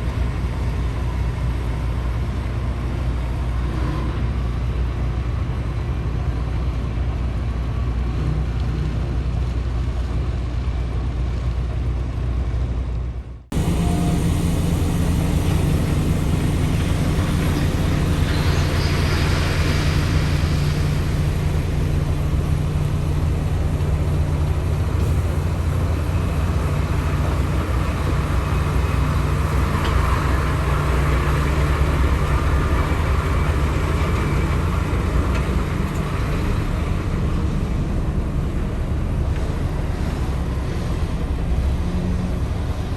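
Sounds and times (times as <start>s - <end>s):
heavy diesel engine droning: 0.0s - 42.9s.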